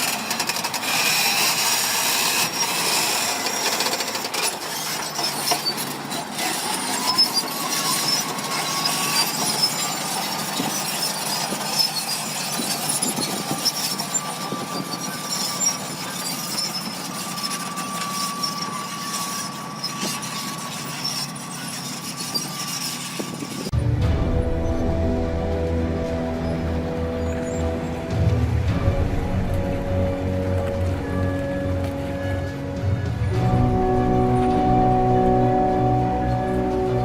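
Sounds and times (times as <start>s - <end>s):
high squeal: 0.0s - 29.0s, 29.9s - 37.0s
heavy machine clattering: 0.0s - 37.0s.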